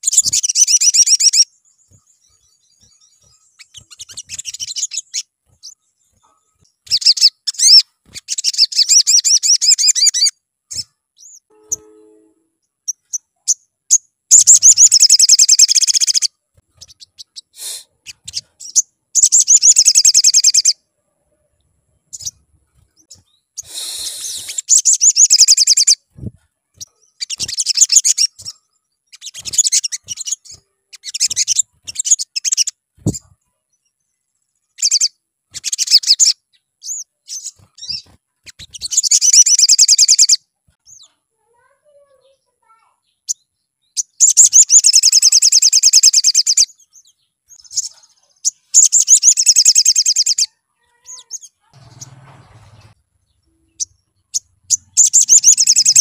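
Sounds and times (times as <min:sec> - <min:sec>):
sunbird singing trills: 0:00.0 - 0:20.8, 0:22.1 - 0:22.4, 0:23.0 - 0:41.2, 0:43.0 - 0:56.0
bird chirps: 0:00.0 - 0:56.0.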